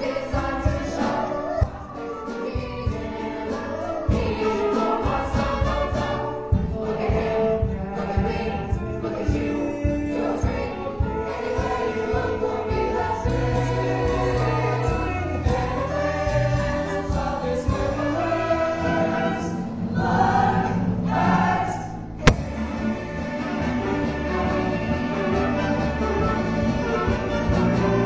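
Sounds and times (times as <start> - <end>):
choir singing: 0.0 - 25.3.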